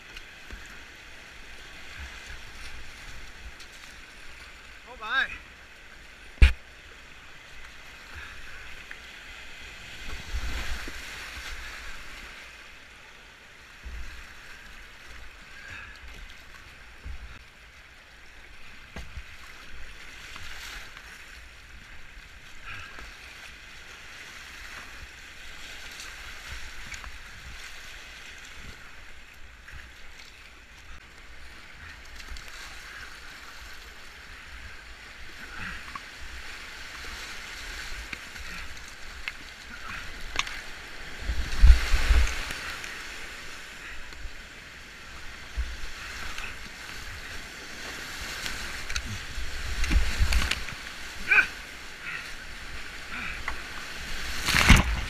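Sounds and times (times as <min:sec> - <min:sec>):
paddle stroke splashes: 0:00.0 - 0:12.8, 0:13.7 - 0:55.0.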